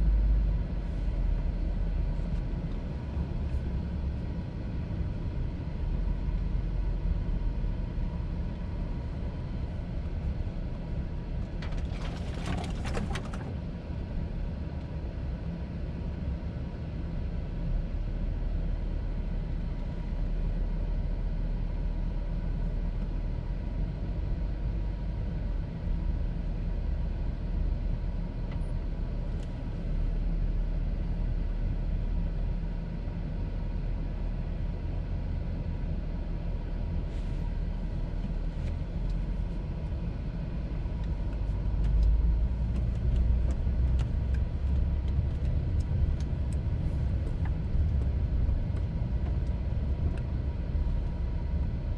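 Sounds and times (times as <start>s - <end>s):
car rumbling on the move: 0.0s - 51.9s.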